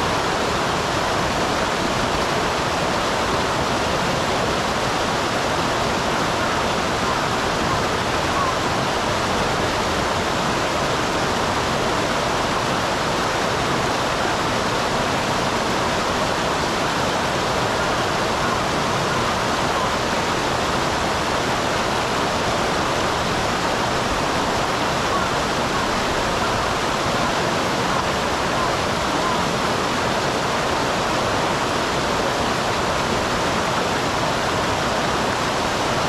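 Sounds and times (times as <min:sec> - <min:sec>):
small waterfall splashing: 0:00.0 - 0:36.0.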